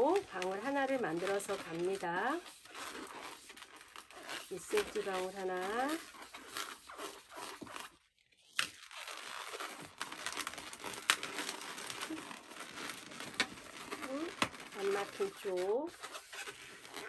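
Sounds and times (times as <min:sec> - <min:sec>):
balloon rubber rubbing and crinkling: 0:00.0 - 0:17.0.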